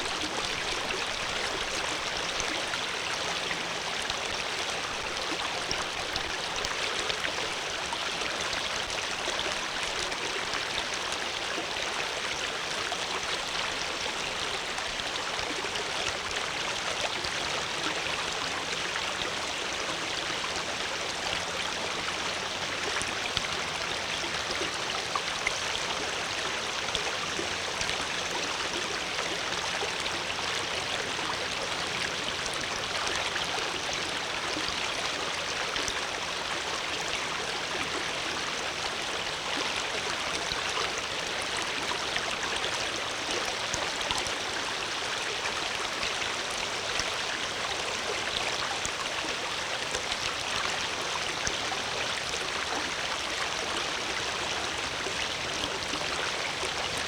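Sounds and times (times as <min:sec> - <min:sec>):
water flowing over rocks: 0:00.0 - 0:57.0.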